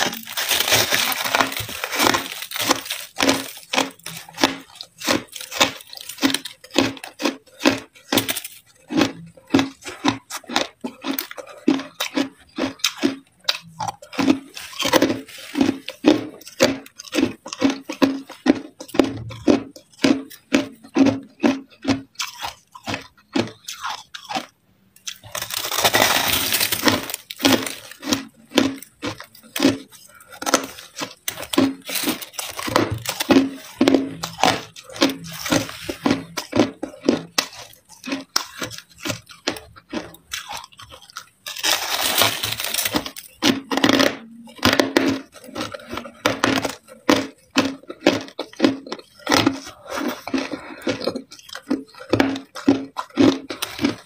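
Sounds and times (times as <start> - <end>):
ice crunching while chewed: 0.0 - 54.0.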